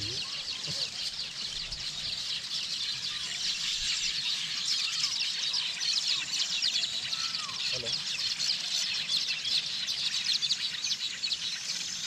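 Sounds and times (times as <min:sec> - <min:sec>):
lower arching bird calls: 0:00.0 - 0:12.0
small birds chirping: 0:00.0 - 0:12.0.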